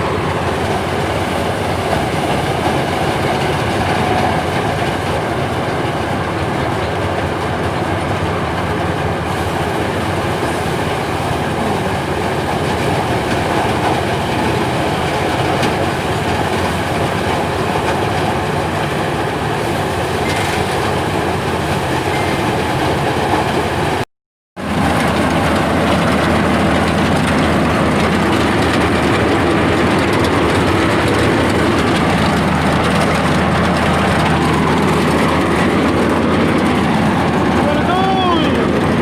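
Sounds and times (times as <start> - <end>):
machine rumbling: 0.0 - 24.0, 24.6 - 39.0.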